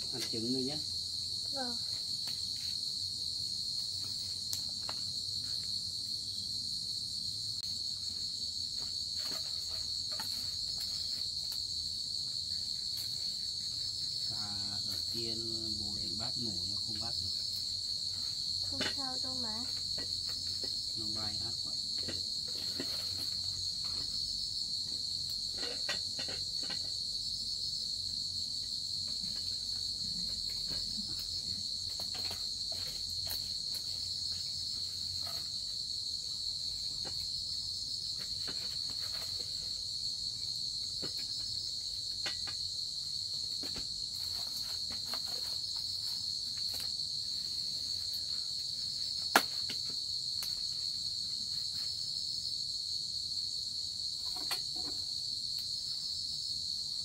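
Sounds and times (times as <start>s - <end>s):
insect chorus trilling: 0.0s - 57.0s.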